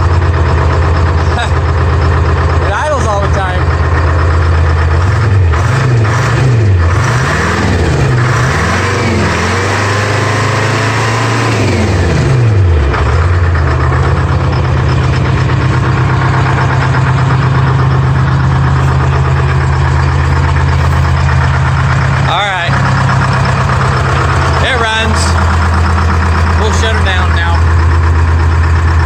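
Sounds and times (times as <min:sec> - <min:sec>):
diesel engine revving and running: 0:00.0 - 0:29.0.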